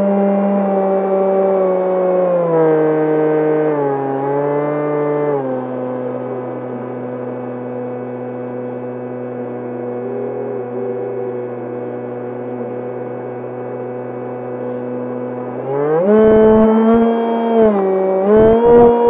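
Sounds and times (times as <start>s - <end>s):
model plane motor drone: 0.0s - 19.0s.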